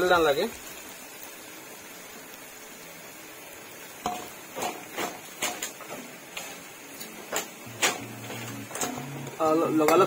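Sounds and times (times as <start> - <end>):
potato sticks sizzling in hot oil: 0.0 - 10.0.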